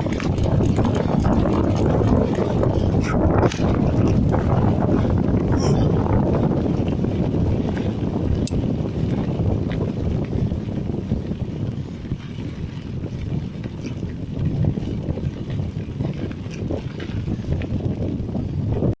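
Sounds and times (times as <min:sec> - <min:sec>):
bike clicks and rattles: 0:00.0 - 0:18.9
bike tyres and wind rumble: 0:00.0 - 0:19.0.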